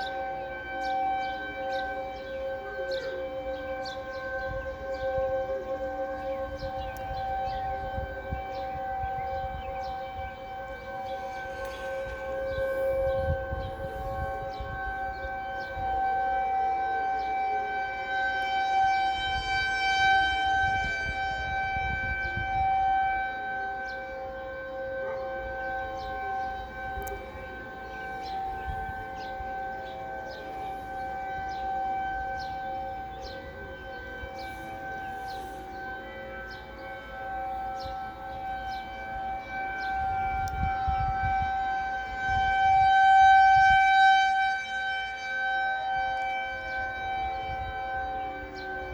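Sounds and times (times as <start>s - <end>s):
warning sirens: 0.0s - 48.9s.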